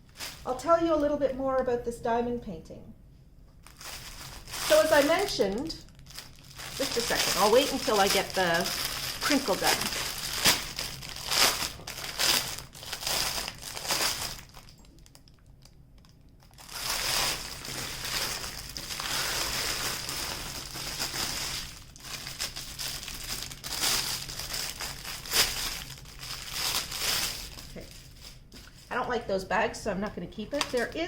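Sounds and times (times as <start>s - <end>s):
plastic bags crinkling: 0.0s - 0.6s, 3.6s - 29.1s, 30.3s - 31.0s.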